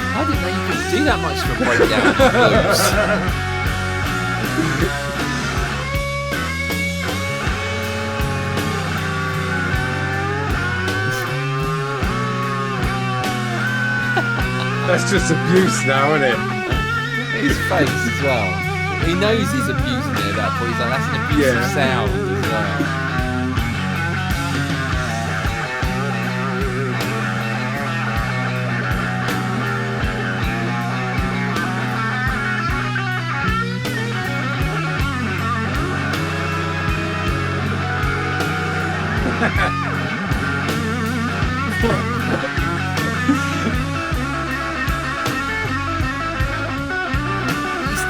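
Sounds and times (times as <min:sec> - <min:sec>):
bass line: 0:00.0 - 0:48.0
electric blues guitar solo: 0:00.0 - 0:48.0
steady drum beat: 0:00.0 - 0:48.0.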